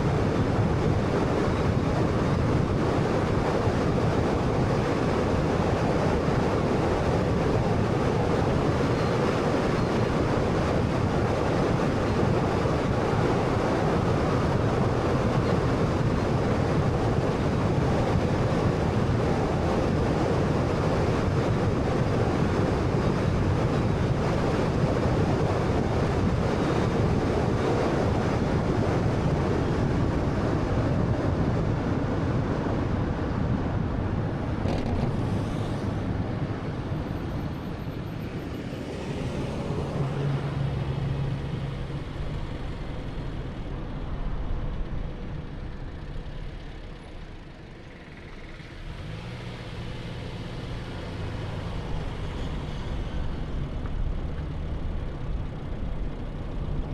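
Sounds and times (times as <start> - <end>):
wind rush: 0.0 - 46.4
road and tyre noise: 0.0 - 56.9.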